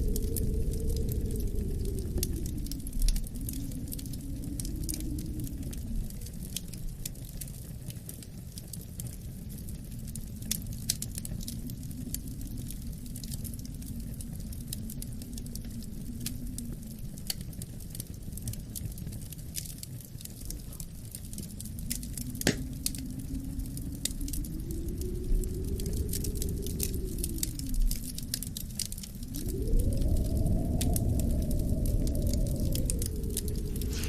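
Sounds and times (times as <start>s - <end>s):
wind rumble: 0.0s - 34.0s
wood fire crackling and popping: 0.0s - 34.0s.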